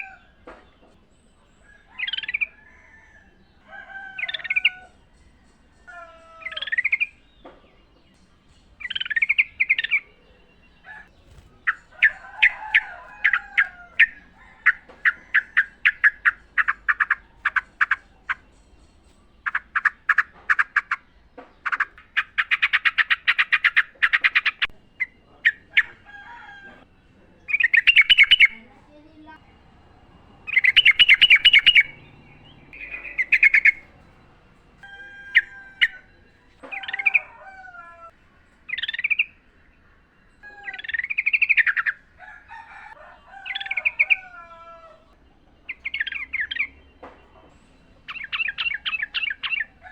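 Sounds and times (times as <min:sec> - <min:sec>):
birds singing and chattering: 0:00.0 - 0:49.9.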